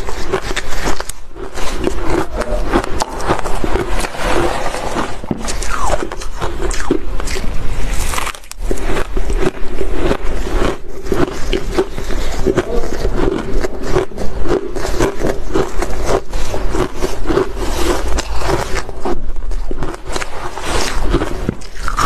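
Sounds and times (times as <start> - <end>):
shaved ice crunching while chewed: 0.0 - 22.0.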